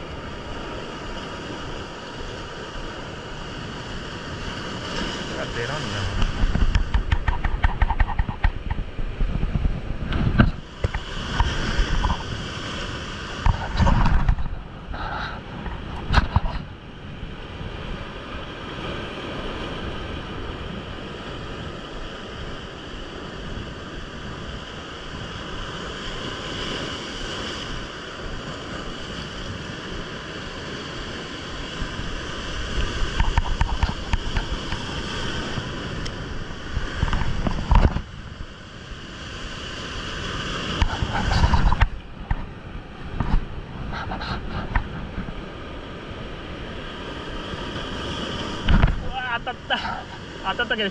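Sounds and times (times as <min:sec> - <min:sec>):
heavy surf breaking on rocks: 0:00.0 - 0:50.9
wind buffeting microphone: 0:00.0 - 0:50.9.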